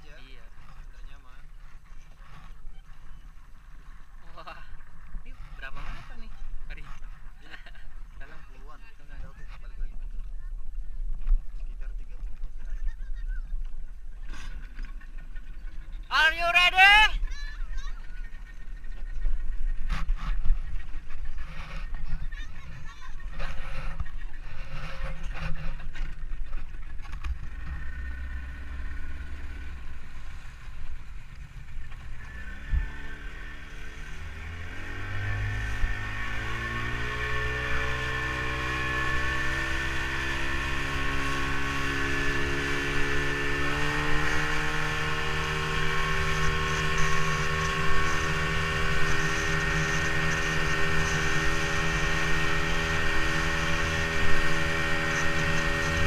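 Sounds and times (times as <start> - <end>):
motorboat engine: 0.0 - 56.0.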